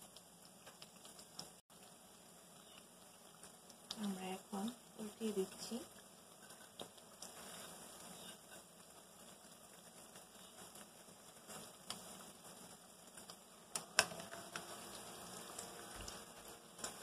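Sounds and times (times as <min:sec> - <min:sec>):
deep-frying crackling sizzle: 0:00.0 - 0:17.0.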